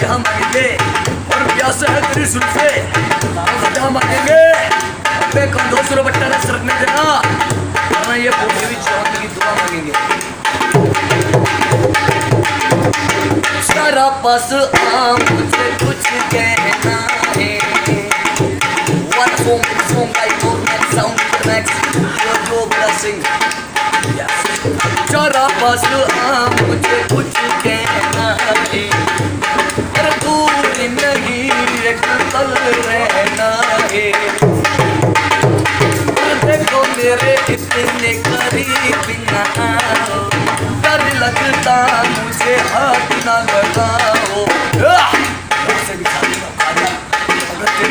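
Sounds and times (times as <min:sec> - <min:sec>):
hand drum playing fast rhythm: 0:00.0 - 0:47.9.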